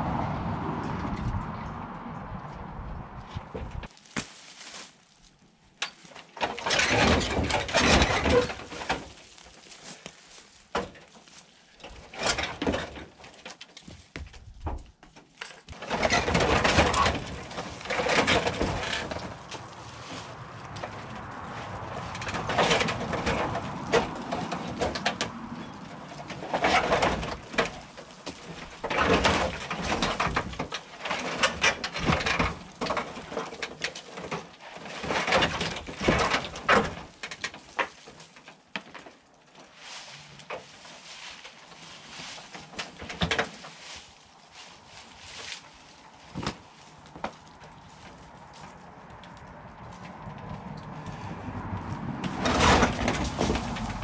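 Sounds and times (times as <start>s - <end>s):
tin roofing creaking and scraping: 3.4s - 54.0s.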